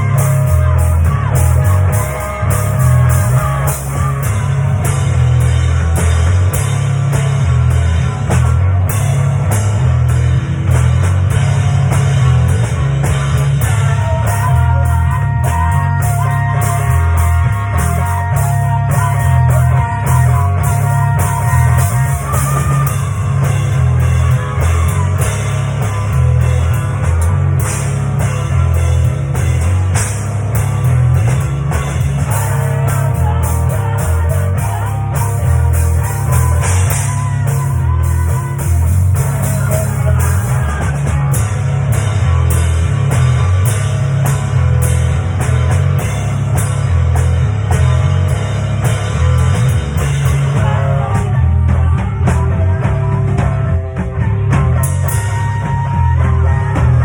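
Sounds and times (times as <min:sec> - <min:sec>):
rock music: 0:00.0 - 0:57.0.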